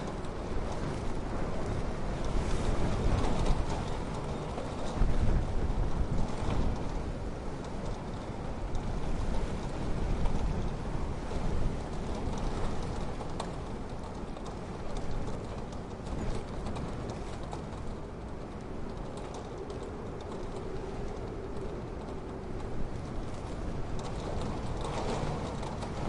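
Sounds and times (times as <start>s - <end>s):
low rumble of wind: 0.0s - 26.0s.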